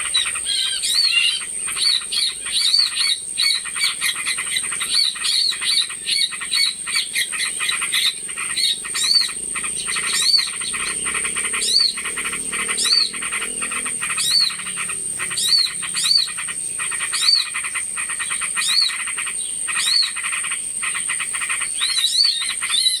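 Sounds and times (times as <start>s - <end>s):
fast rattling bird chatter: 0.0s - 23.0s
high bird chirp: 0.0s - 23.0s.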